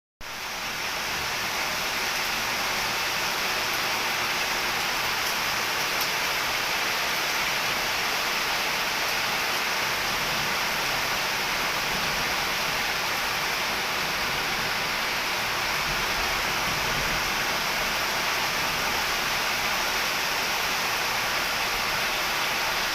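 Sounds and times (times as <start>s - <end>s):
heavy rain falling: 0.2s - 22.9s.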